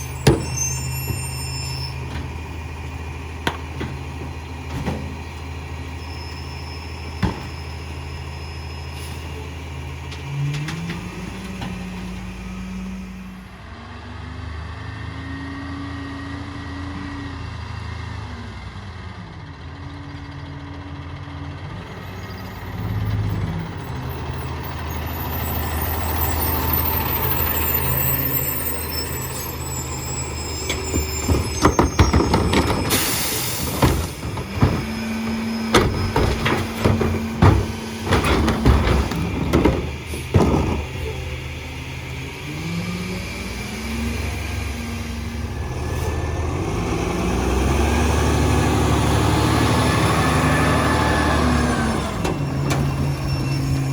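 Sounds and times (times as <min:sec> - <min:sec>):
diesel engine idling and revving: 0:00.0 - 0:53.9.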